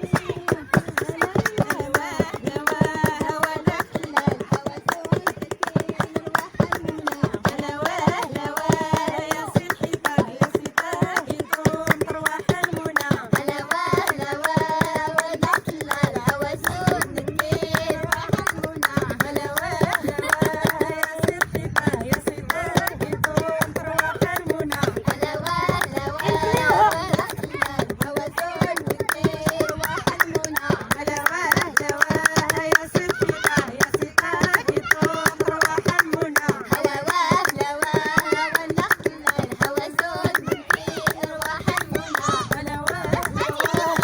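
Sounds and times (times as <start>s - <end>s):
fast percussive beat: 0.0s - 44.0s.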